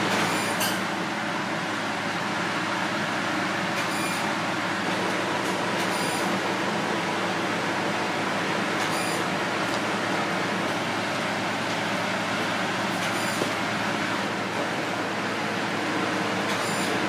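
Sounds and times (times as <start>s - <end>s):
steady rushing fan noise: 0.0s - 17.0s.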